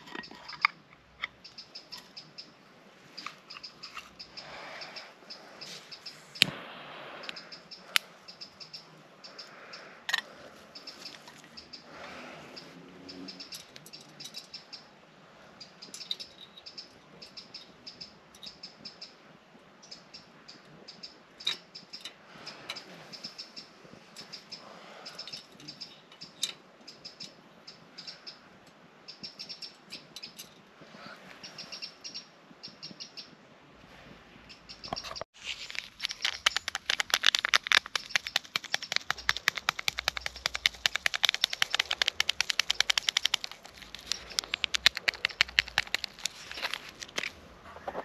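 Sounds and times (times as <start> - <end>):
small birds chirping: 0.0 - 33.4, 34.4 - 48.0.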